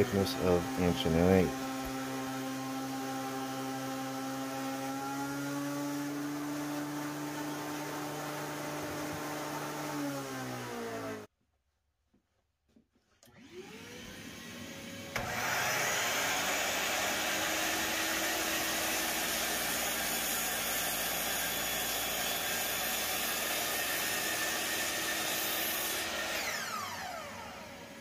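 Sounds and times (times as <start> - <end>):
dust extraction vacuum running: 0.0 - 11.3, 13.3 - 28.0
miter saw cutting wood: 0.0 - 11.3, 13.3 - 28.0.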